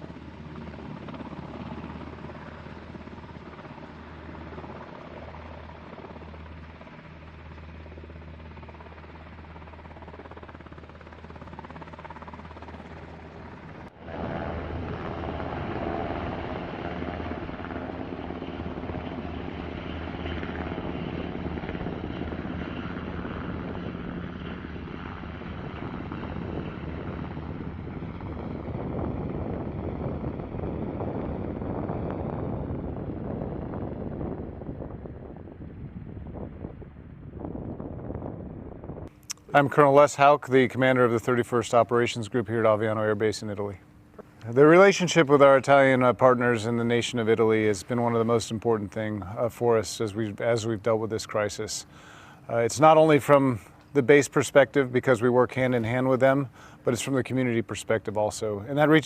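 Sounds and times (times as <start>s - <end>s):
military aircraft engine: 0.0s - 59.0s.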